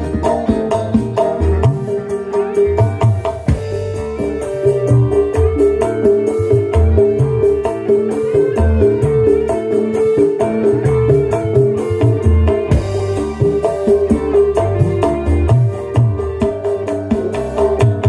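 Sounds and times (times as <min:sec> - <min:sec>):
deep drum beats: 0:00.0 - 0:18.0
hand drums: 0:00.0 - 0:18.0
live band music over sound system: 0:00.0 - 0:18.0.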